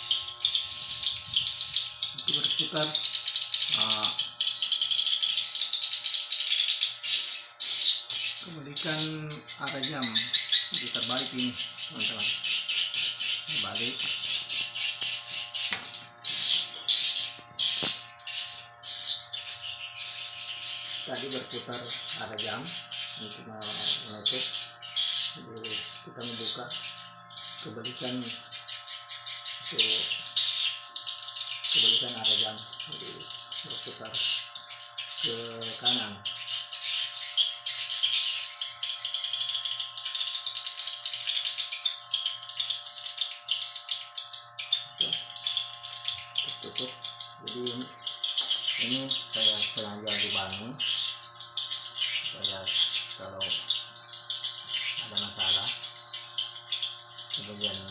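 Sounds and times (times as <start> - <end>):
electrical hum: 0.0 - 57.9
swiftlets chirping trills: 0.0 - 57.9.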